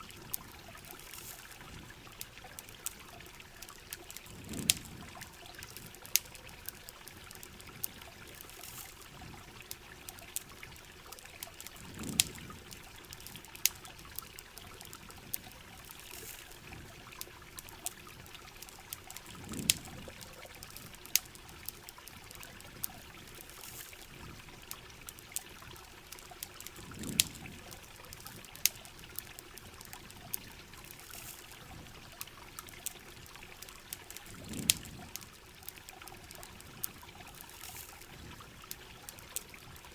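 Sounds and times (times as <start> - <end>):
rain hiss: 0.0 - 39.9
running water: 0.0 - 39.9
wood fire crackling: 0.0 - 39.9.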